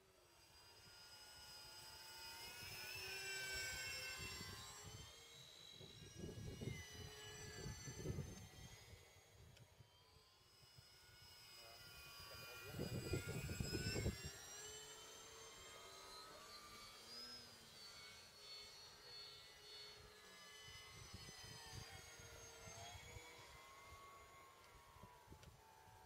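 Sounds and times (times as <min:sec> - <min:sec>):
model plane electric motors whining: 0:00.0 - 0:26.0.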